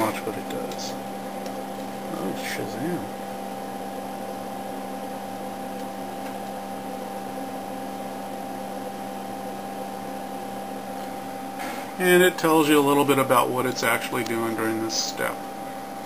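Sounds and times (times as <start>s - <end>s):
steady hum with fixed tones: 0.0s - 16.0s.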